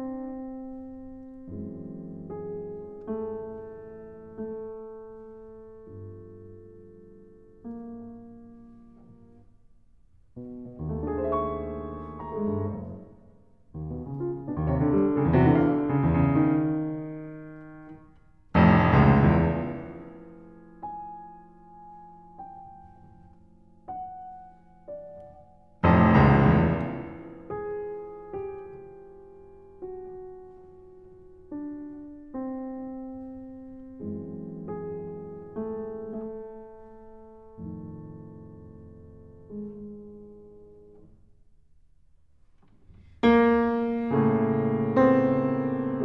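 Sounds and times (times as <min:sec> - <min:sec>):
slow piano music: 0:00.0 - 0:46.0.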